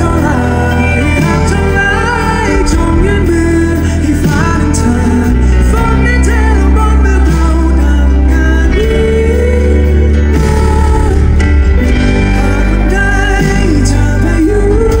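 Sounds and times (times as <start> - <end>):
heavy bass: 0.0 - 15.0
person singing: 0.0 - 15.0
pop band playing live: 0.0 - 15.0.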